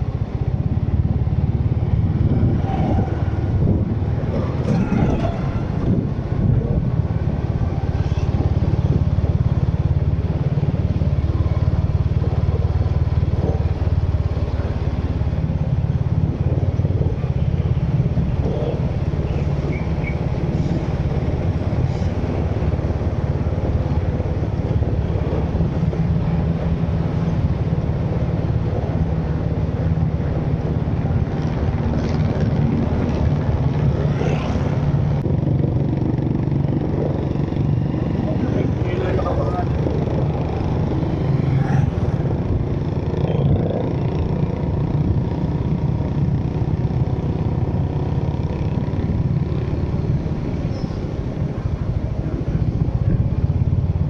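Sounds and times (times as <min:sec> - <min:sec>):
faint traffic sounds: 0:00.0 - 0:54.0
vehicle engine and road rumble: 0:00.0 - 0:54.0.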